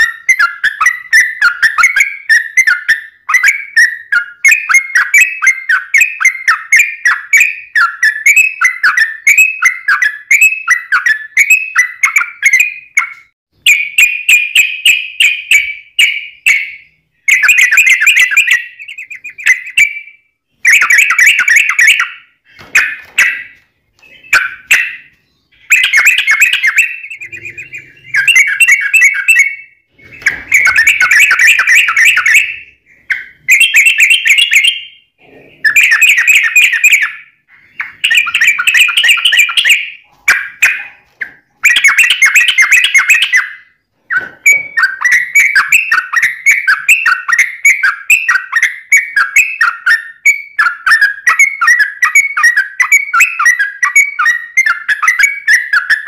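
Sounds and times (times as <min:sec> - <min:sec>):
bird singing warbling phrases: 0:00.0 - 0:56.0.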